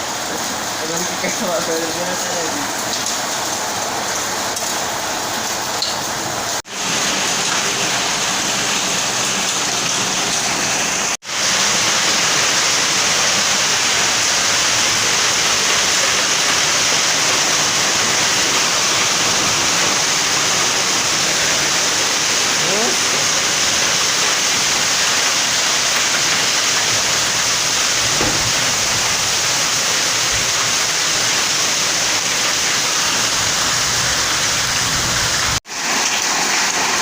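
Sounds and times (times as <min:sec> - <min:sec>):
heavy rain with hail: 0:00.0 - 0:37.0.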